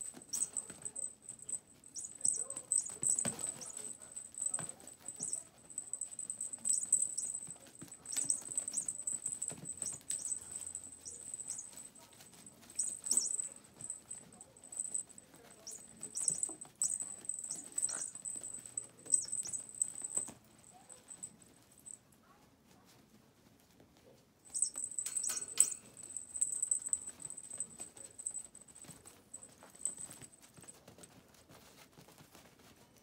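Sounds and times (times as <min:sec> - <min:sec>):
puppy paws scrabbling on pads: 0:00.0 - 0:33.0.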